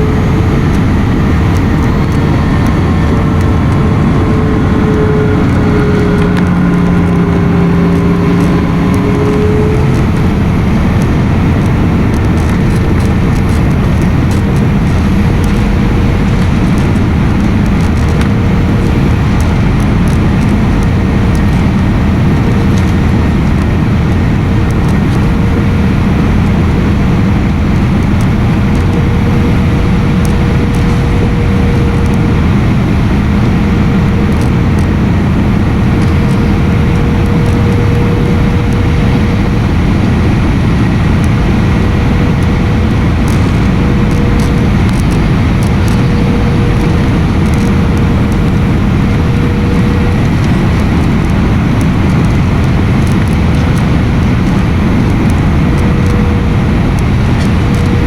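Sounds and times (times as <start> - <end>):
faint steady hum: 0.0 - 58.0
jet engines and airflow rushing: 0.0 - 58.0.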